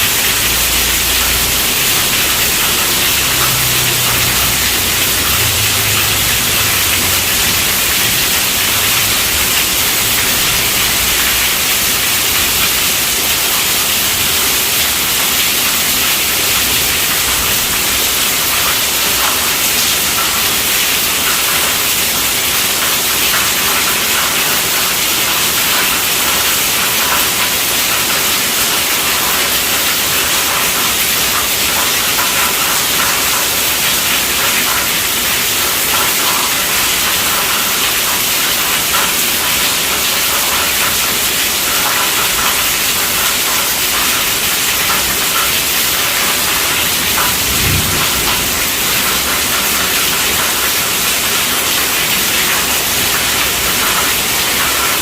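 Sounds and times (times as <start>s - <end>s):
heavy rain on a tent roof: 0.0s - 55.0s.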